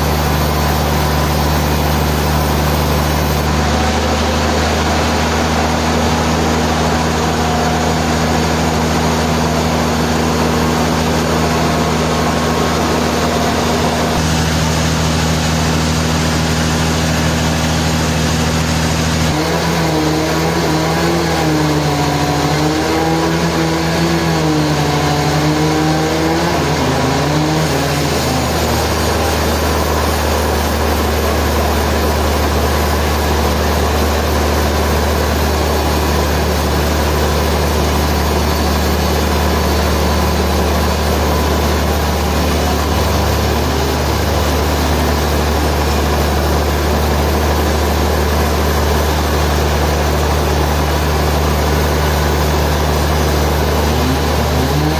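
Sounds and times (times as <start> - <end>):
engine drone: 0.0 - 54.9
sawmill machinery running: 0.0 - 54.9.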